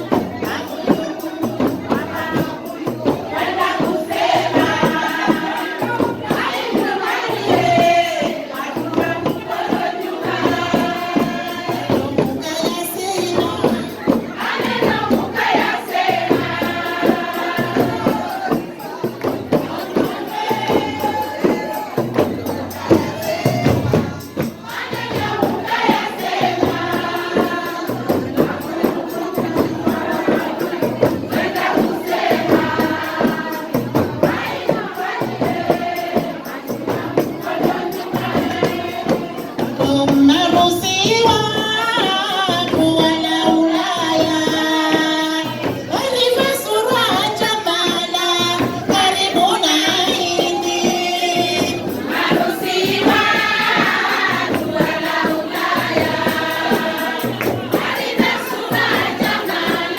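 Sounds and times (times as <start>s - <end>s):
crowd noise: 0.0s - 59.9s
group of voices singing: 0.0s - 59.9s
hand percussion: 0.0s - 59.9s.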